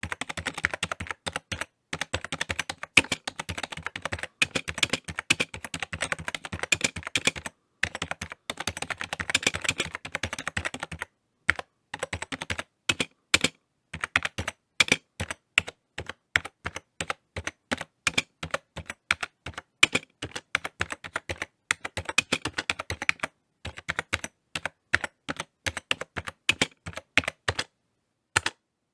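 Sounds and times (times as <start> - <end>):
computer keyboard typing: 0.0 - 27.7, 28.4 - 28.6.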